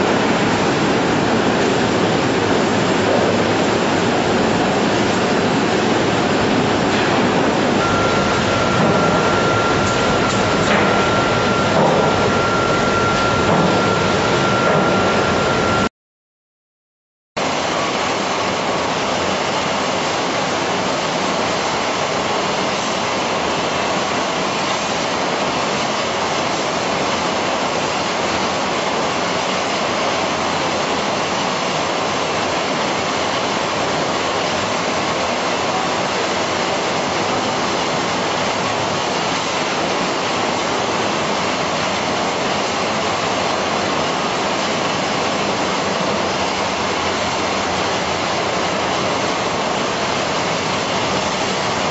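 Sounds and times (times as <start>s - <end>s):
processing machinery rushing noise: 0.0s - 15.9s, 17.4s - 51.9s.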